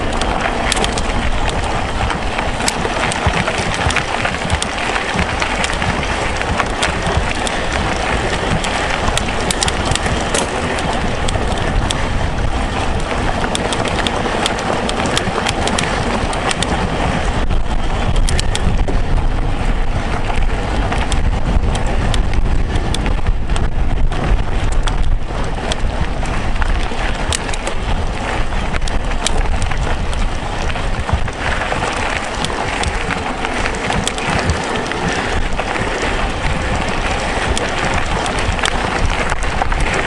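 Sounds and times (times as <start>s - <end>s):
bike tyre rumble on gravel: 0.0s - 40.0s
stones and bike rattling: 0.0s - 40.0s
wind buffeting microphone: 0.0s - 40.0s.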